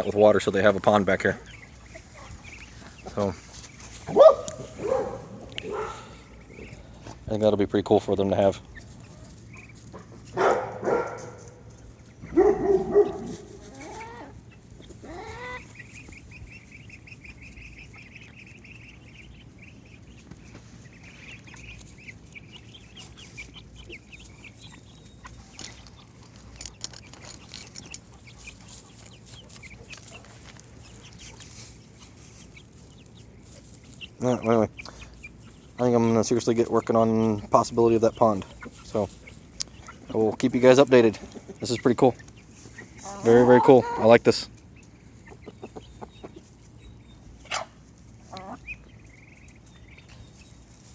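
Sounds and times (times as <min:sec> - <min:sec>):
chickens clucking: 0:00.0 - 0:50.9
chickens scratching: 0:00.0 - 0:50.9
chickens squawking: 0:00.0 - 0:50.9.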